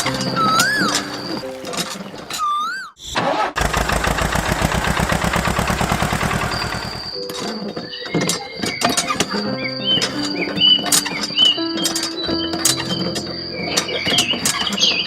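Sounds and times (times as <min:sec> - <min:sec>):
small engine puttering: 0:00.0 - 0:02.8, 0:03.6 - 0:15.0.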